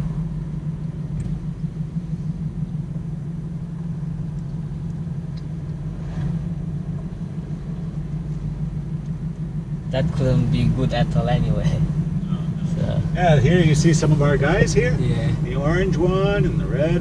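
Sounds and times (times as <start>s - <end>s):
van engine and tyres drone: 0.0s - 17.0s.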